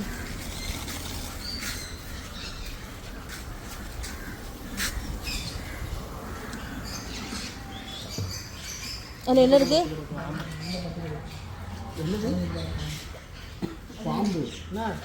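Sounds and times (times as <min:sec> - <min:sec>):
birds chirping and squawking: 0:00.0 - 0:15.0.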